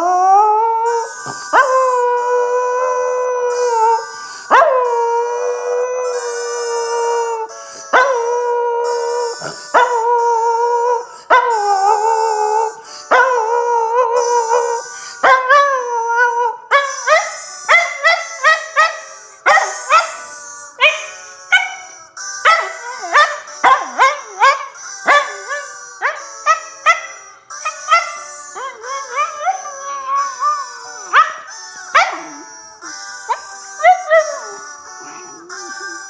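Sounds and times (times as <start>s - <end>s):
music from a phone: 0.0s - 36.0s.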